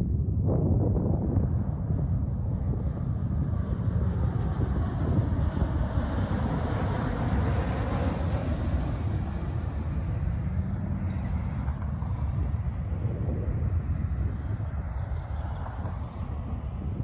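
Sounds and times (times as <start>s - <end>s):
jet engines rumbling: 0.9s - 17.0s.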